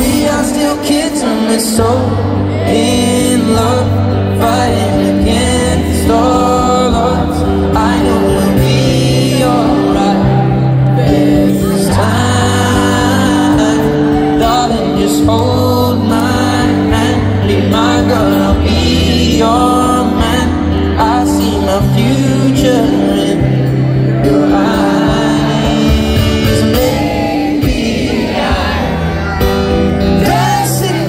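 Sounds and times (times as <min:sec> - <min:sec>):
acoustic guitar song: 0:00.0 - 0:31.0
person singing: 0:00.0 - 0:31.0.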